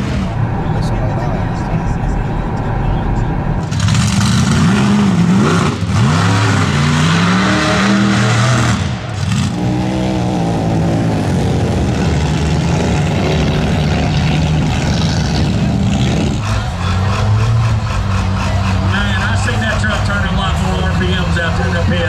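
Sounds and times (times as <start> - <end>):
suv engine revving: 0.0 - 22.0
truck engine revving: 0.0 - 22.0.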